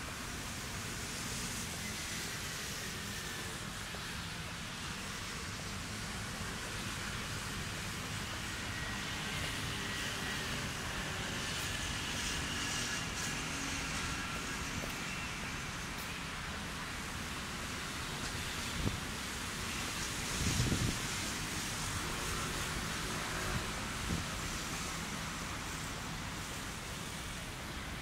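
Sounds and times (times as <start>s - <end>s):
distant traffic hum: 0.0s - 28.0s.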